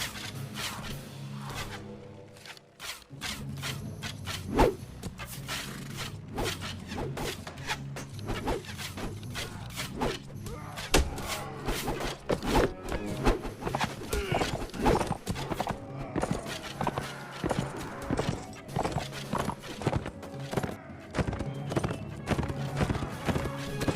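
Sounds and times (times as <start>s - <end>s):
music playing: 0.0s - 23.9s.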